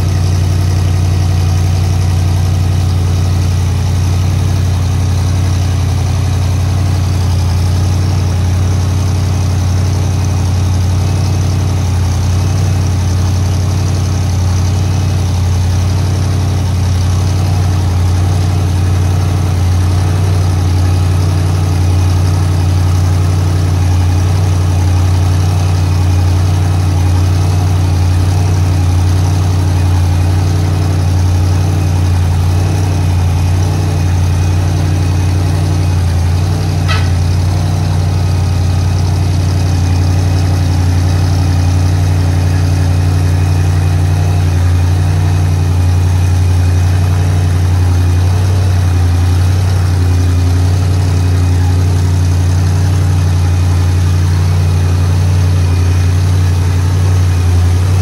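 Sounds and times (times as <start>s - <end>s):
large engine idling: 0.0s - 58.0s.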